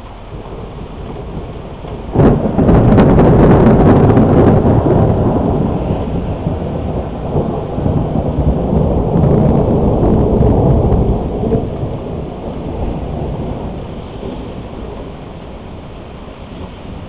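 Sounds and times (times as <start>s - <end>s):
rolling thunder: 0.0s - 17.0s
steady rain hissing: 0.0s - 17.0s.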